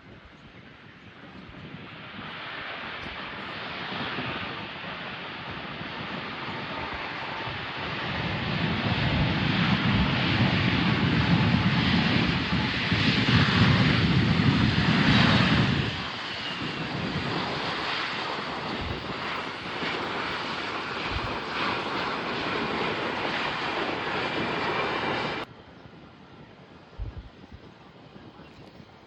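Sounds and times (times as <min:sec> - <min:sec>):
aircraft engines rumbling: 0:00.0 - 0:29.0.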